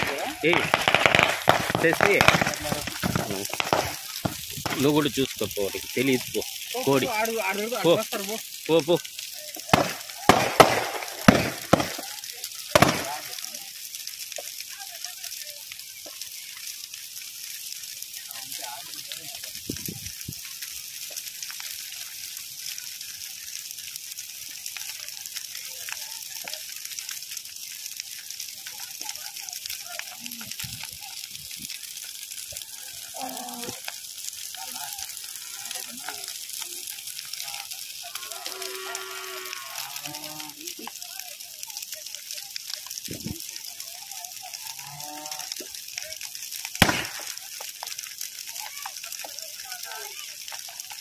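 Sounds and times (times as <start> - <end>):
bonfire crackling and hissing: 0.0 - 51.0.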